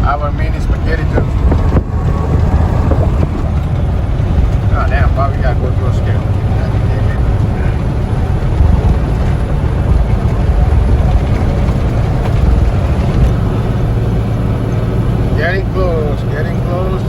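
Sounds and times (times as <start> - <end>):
road noise: 0.0 - 17.0
truck diesel engine rumble: 0.0 - 17.0.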